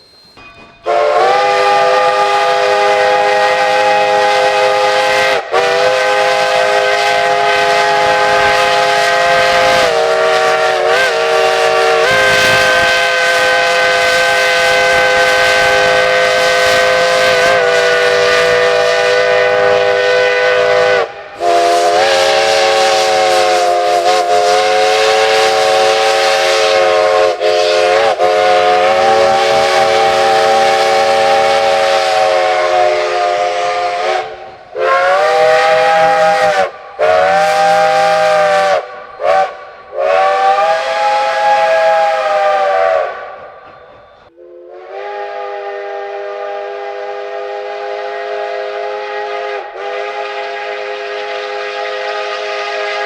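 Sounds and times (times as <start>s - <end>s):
steam locomotive chime whistle: 0.0s - 53.0s.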